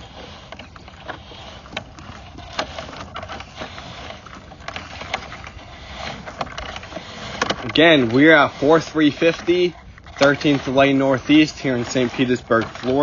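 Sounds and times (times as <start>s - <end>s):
camera cable scraping in pipe: 0.0s - 13.0s.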